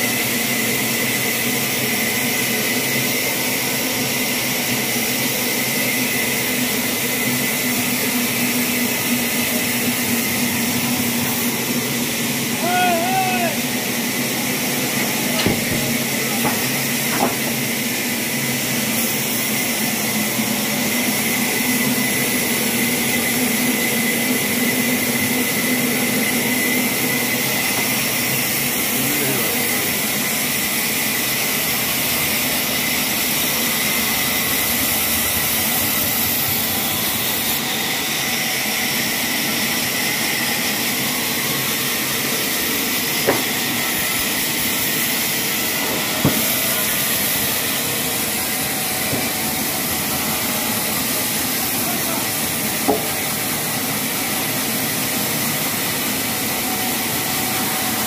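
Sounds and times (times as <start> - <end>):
loud steady hiss: 0.0 - 58.0.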